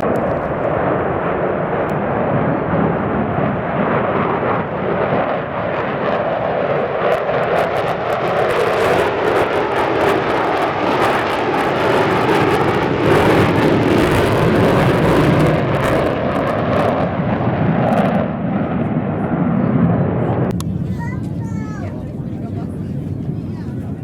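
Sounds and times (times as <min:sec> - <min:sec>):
aircraft engine: 0:00.0 - 0:24.0.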